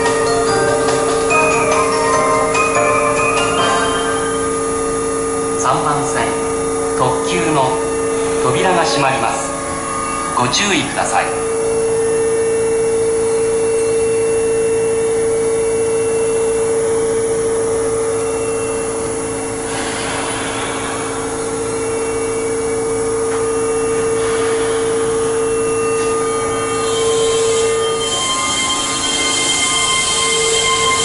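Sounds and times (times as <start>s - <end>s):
electric train whining: 0.0s - 31.0s
train machinery tone and hiss: 0.0s - 31.0s.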